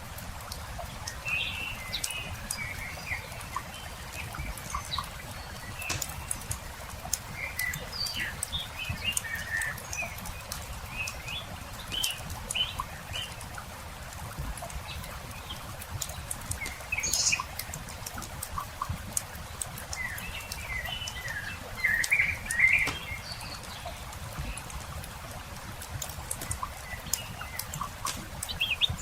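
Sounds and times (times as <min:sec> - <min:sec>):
campfire crackling: 0:00.0 - 0:29.0
small birds chirping: 0:00.5 - 0:29.0.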